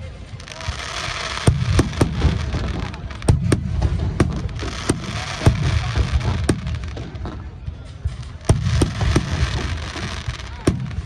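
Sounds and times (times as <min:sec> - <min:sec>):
fireworks bangs: 0:00.4 - 0:11.0.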